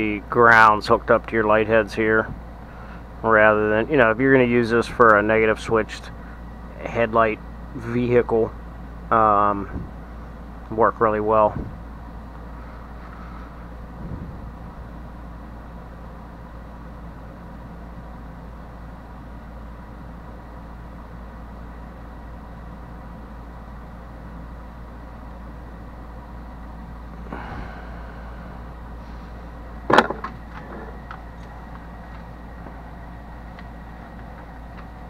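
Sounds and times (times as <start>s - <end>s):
low hum with hiss: 0.0s - 35.0s.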